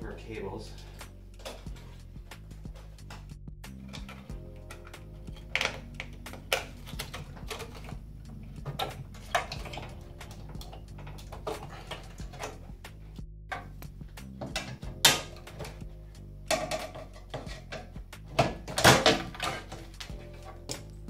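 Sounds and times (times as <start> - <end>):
wire rattles: 0.0 - 21.0.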